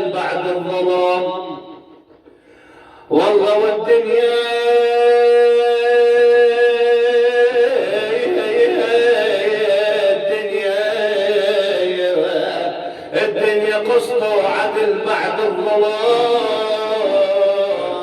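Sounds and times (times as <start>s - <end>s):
man chanting: 0.0s - 2.1s, 3.0s - 18.0s.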